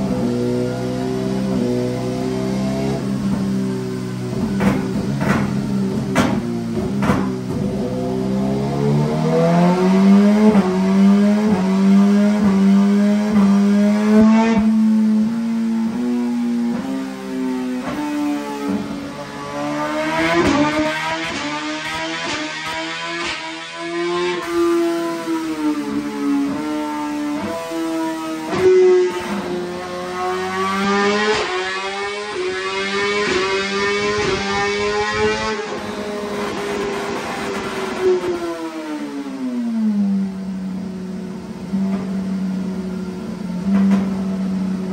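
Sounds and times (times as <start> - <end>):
motorcycle engine at high revs: 0.0 - 44.9.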